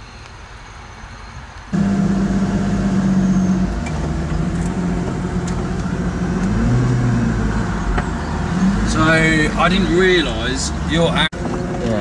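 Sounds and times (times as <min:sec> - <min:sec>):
car engine with loud exhaust: 0:00.3 - 0:12.0.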